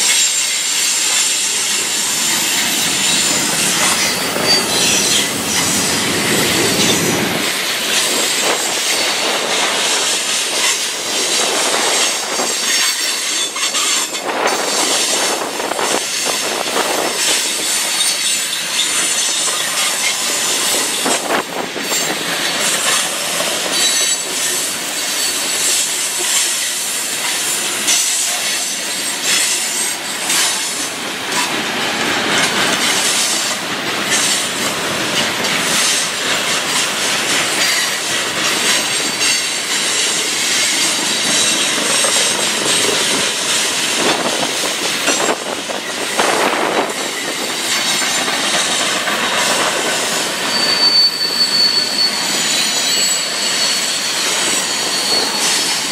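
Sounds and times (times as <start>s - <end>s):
train wheels squealing: 0.0s - 55.9s
wheel and rail rush: 0.0s - 55.9s.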